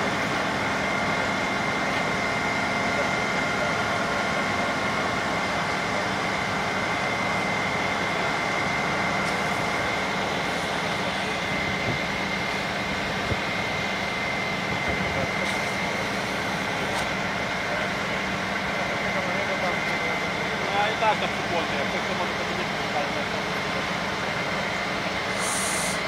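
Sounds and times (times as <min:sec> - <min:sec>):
fire engine engine drone: 0:00.0 - 0:26.0
water pump high whine: 0:00.0 - 0:26.0.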